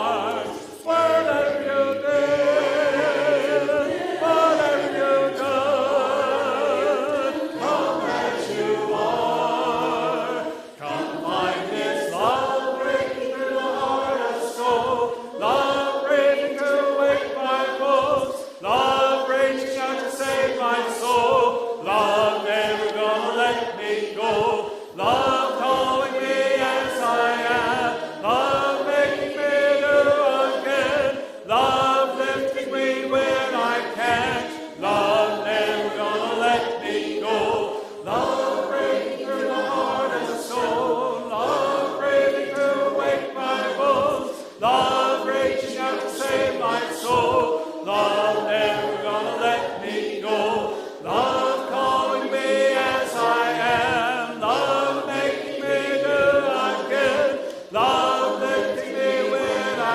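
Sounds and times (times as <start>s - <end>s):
voices singing worship song: 0.0s - 59.9s.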